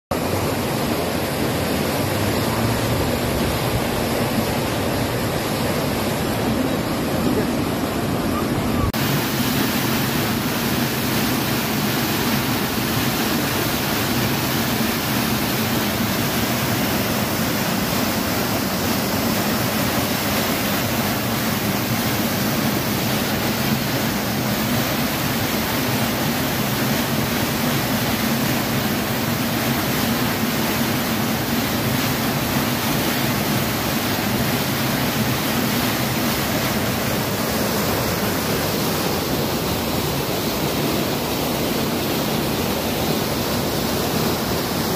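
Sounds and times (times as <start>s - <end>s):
torrent of water rushing: 0.1s - 44.9s.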